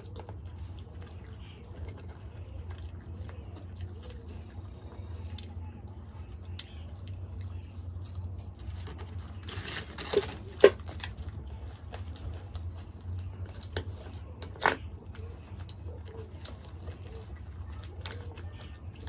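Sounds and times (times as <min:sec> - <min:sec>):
low steady hum: 0:00.0 - 0:19.0
tearing and chewing food: 0:00.0 - 0:19.0.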